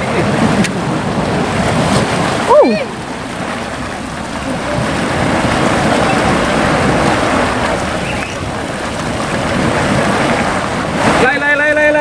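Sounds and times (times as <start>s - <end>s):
hot spring pool bubbling: 0.0s - 12.0s.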